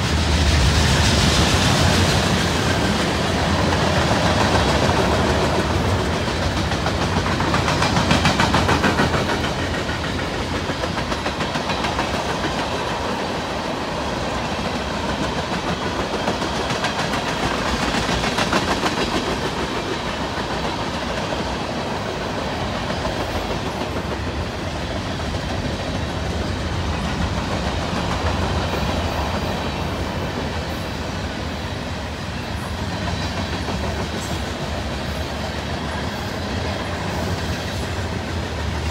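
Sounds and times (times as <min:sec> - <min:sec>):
freight train wheels rumbling: 0:00.0 - 0:38.9
wheels clacking over rail joints: 0:00.0 - 0:38.9.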